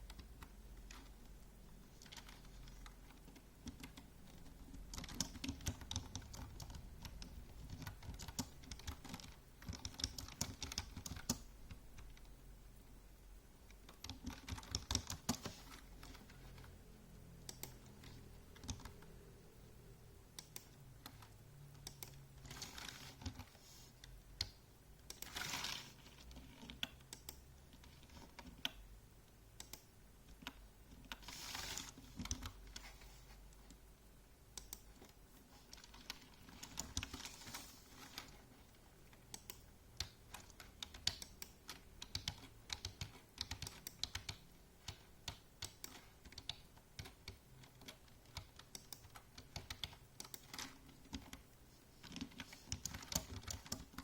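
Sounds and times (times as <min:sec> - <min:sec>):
keyboard typing clicks: 0:02.0 - 0:12.3, 0:13.7 - 0:16.7, 0:17.4 - 0:19.2, 0:20.3 - 0:25.5, 0:26.6 - 0:28.8, 0:29.6 - 0:31.3, 0:32.1 - 0:32.9, 0:34.5 - 0:38.3, 0:39.1 - 0:54.0.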